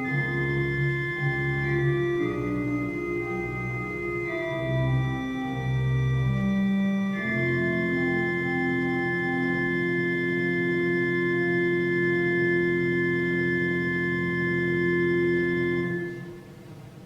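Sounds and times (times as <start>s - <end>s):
organ sustained chord: 0.0s - 16.9s.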